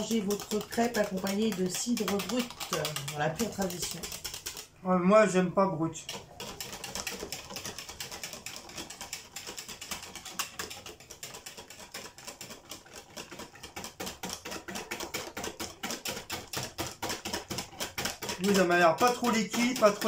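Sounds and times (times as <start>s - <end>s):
wire whisk tapping bowl: 0.0s - 4.7s, 6.0s - 20.0s.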